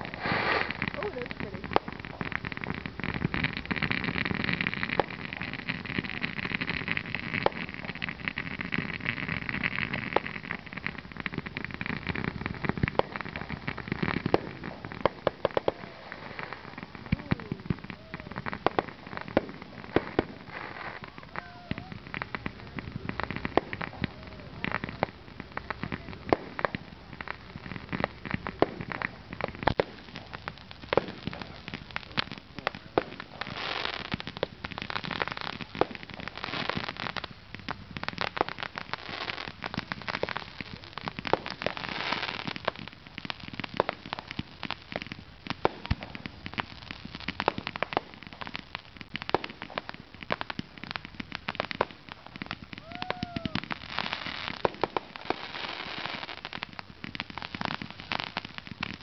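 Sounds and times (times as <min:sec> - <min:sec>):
fireworks bangs and pops: 0:00.0 - 0:59.0
fireworks crackling: 0:00.0 - 0:59.0.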